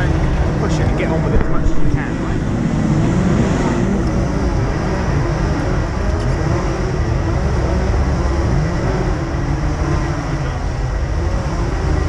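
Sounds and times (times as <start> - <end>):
kart engines idling: 0.0 - 12.0.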